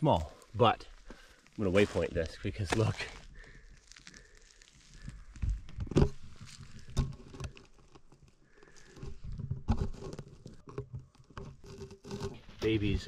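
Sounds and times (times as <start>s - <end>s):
crunches and rustles of handling: 0.0s - 13.0s.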